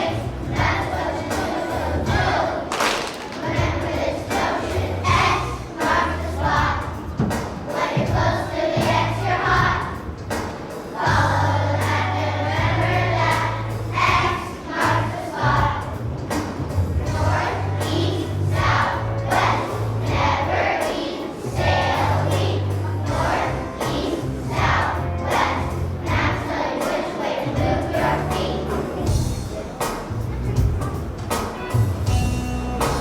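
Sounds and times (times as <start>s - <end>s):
children's choir singing: 0.0s - 32.1s
instrumental accompaniment: 0.0s - 33.0s.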